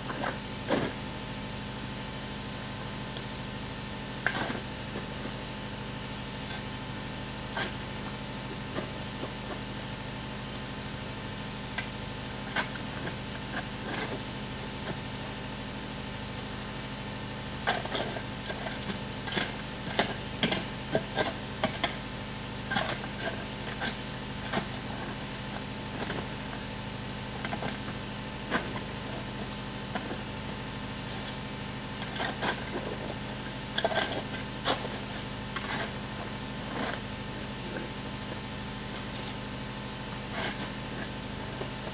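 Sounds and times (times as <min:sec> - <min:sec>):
steady mechanical hum: 0:00.0 - 0:41.9.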